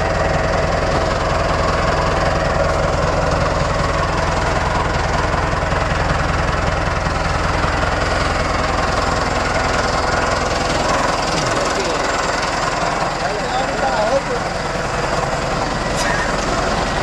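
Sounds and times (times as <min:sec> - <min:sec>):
tractor engine chugging: 0:00.0 - 0:17.0.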